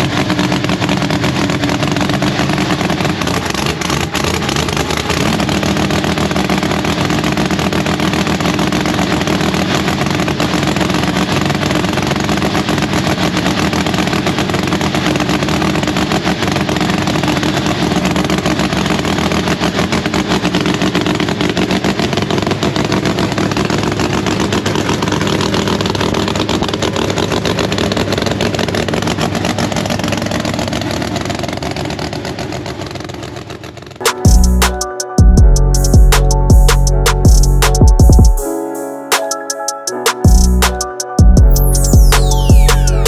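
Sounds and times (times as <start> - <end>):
race car engine running: 0.0 - 38.4, 40.2 - 43.0.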